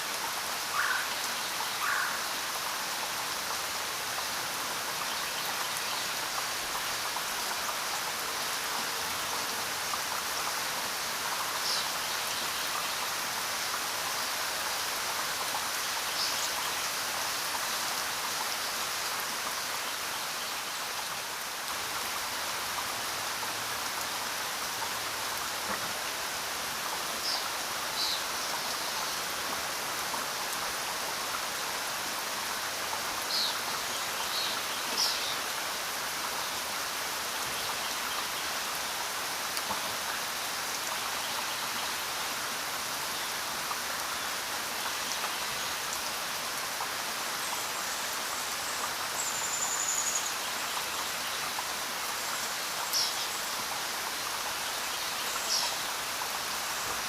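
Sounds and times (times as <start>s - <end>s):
rain on the ground: 0.0s - 57.0s.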